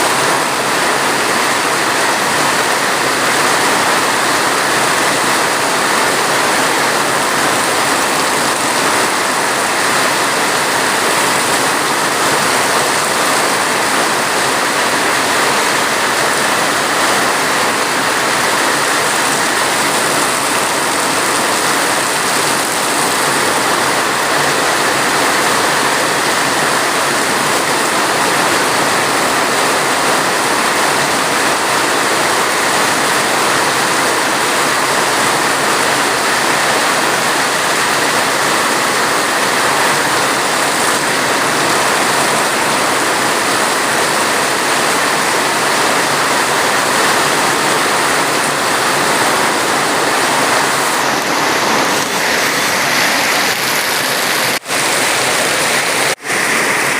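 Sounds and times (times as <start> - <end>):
heavy rain hiss: 0.0 - 56.9.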